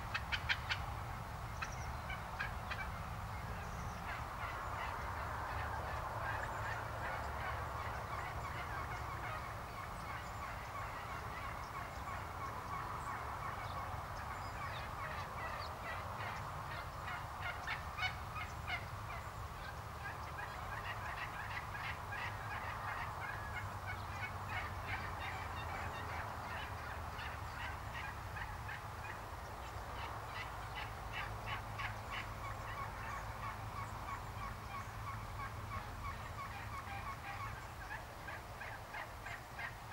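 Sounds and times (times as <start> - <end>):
turkeys gobbling: 0.0 - 39.9.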